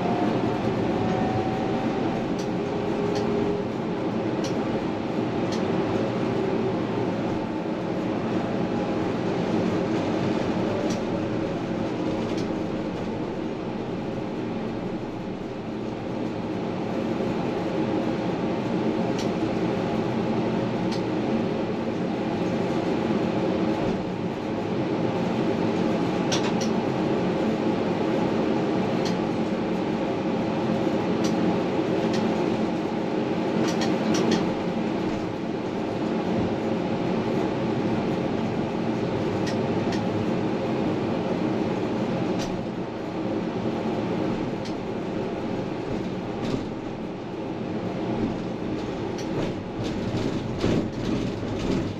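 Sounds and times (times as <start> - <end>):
constant hum: 0.0 - 51.9
tram wheels rumbling on rails: 0.0 - 51.9.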